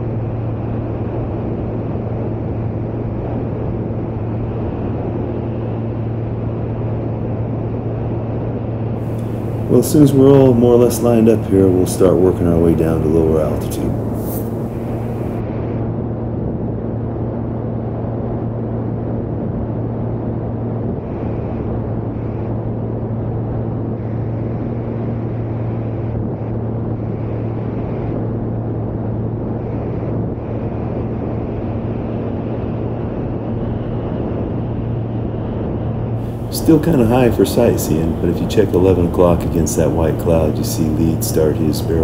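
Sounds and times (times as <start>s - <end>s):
light aircraft engine droning: 0.0s - 42.0s.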